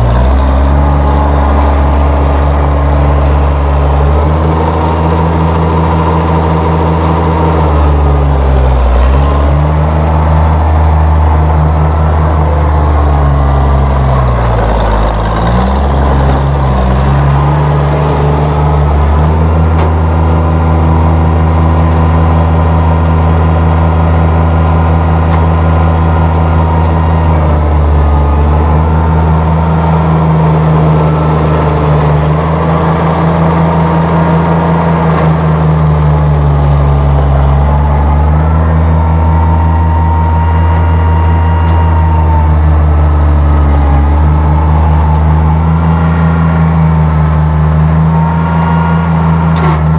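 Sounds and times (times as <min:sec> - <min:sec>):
tractor engine running steadily: 0:00.0 - 0:49.9.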